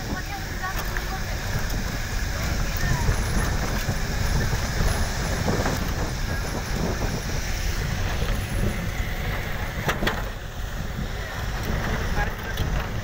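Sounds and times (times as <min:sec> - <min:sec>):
vehicle rumbling over gravel: 0:00.0 - 0:13.0.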